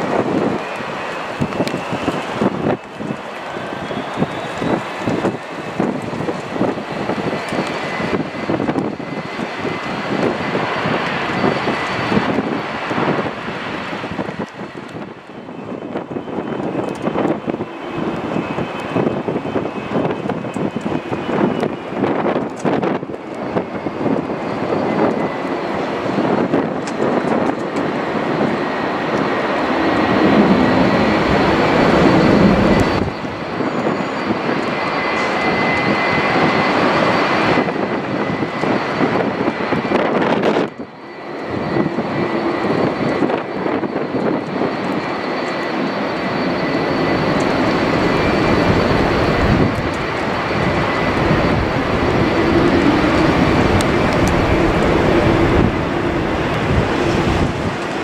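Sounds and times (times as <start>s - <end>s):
airliner jet engines rushing: 0.0s - 58.0s
faint high engine whine: 0.0s - 58.0s.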